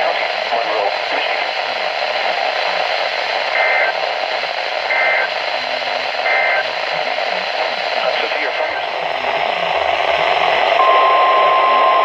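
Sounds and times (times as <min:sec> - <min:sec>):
receiver hiss: 0:00.0 - 0:12.0.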